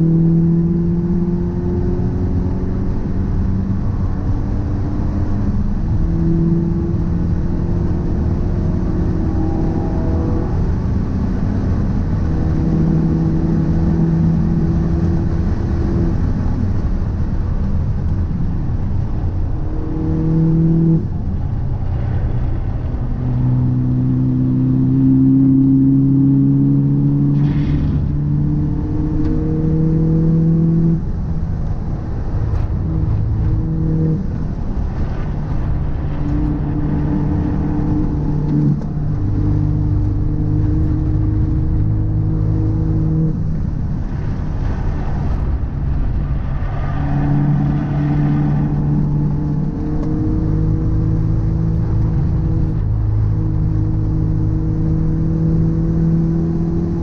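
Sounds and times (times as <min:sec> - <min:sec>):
humming drone: 0:00.0 - 0:57.0
road and engine rumble: 0:00.0 - 0:57.0.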